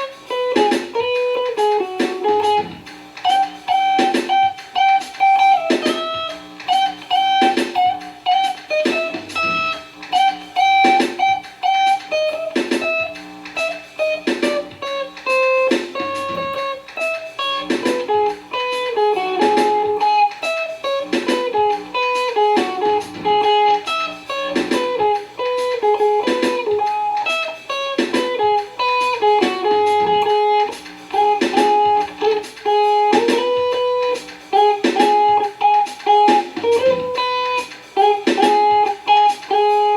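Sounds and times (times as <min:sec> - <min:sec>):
jazz on plucked string instrument: 0:00.0 - 0:39.9.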